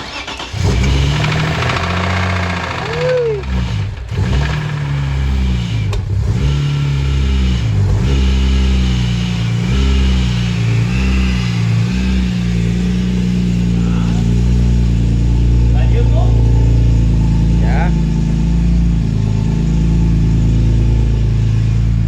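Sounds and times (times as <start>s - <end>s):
car engine revving lightly: 0.6s - 22.0s.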